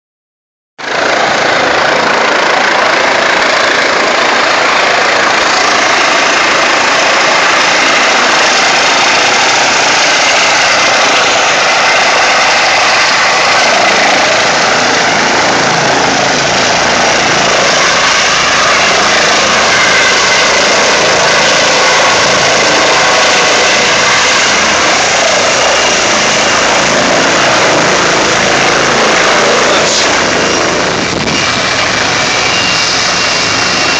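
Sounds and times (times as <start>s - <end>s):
helicopter rotors and engines: 0.8s - 33.9s.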